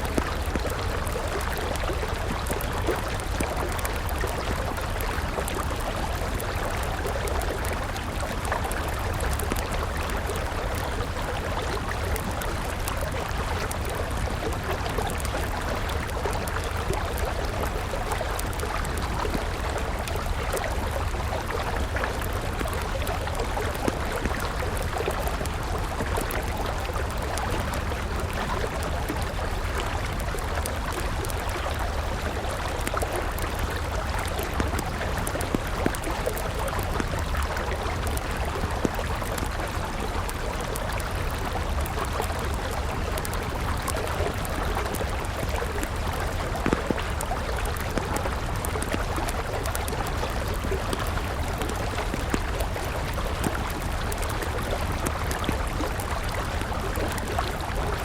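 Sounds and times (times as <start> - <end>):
campfire crackling and popping: 0.0 - 58.0
river water flowing: 0.0 - 58.0.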